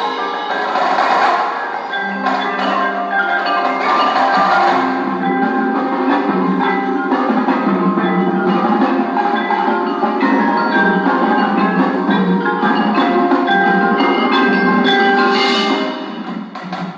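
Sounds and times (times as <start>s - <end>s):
mallet percussion music: 0.0s - 16.9s.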